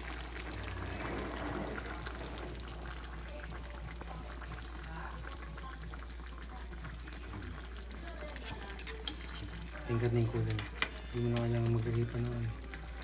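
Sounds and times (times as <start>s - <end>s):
sauce simmering in a frying pan: 0.0s - 13.0s.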